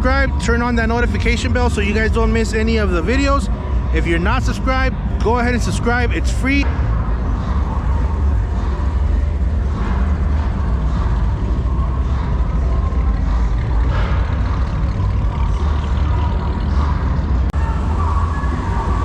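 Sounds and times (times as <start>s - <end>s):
noisy background: 0.0s - 19.0s
vehicle engines rumbling: 0.0s - 19.0s.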